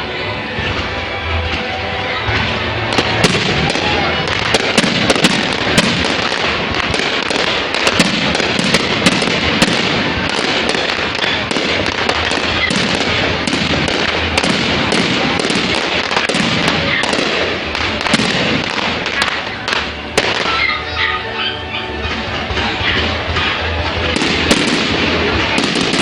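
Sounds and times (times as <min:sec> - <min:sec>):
fireworks crackling: 0:00.6 - 0:20.9, 0:22.1 - 0:26.0
sharp firework bangs: 0:02.3 - 0:20.7, 0:23.0 - 0:26.0.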